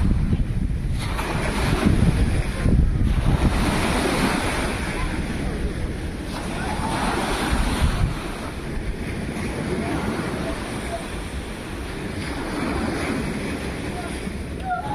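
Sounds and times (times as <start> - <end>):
waves washing on shore: 0.0 - 14.9
wind buffeting microphone: 0.0 - 14.9.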